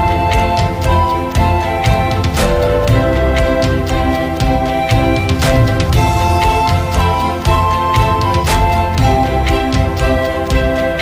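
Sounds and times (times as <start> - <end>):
held instrumental notes: 0.0 - 11.0
regular drum hits: 0.0 - 11.0.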